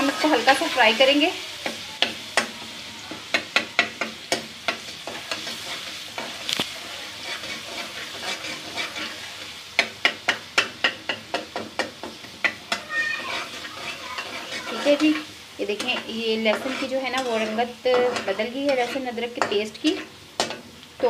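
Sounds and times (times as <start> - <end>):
paste sizzling in hot oil: 0.0 - 21.0
spoon scraping a pot: 3.3 - 20.7.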